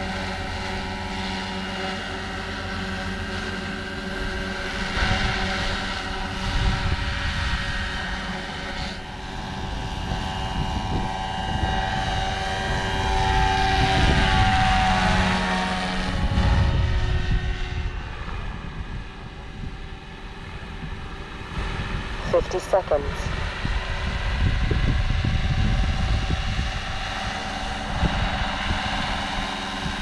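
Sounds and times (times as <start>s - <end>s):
helicopter rotor noise: 0.0s - 30.0s
model helicopter whine: 0.0s - 30.0s.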